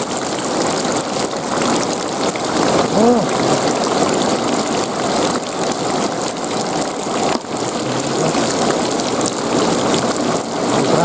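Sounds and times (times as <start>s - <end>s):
heavy rain splashing in puddles: 0.0s - 11.0s
rainwater running: 0.0s - 11.0s.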